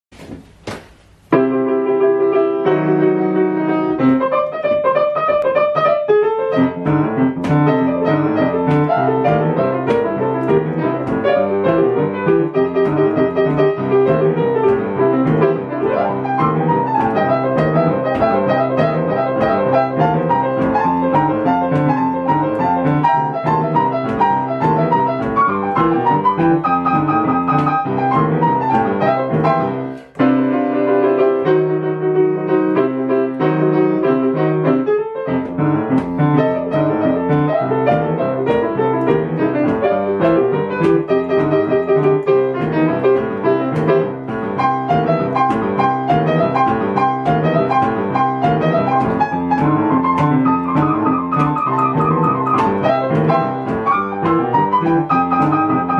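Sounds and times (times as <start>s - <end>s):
boogie-woogie grand piano: 1.2s - 55.9s.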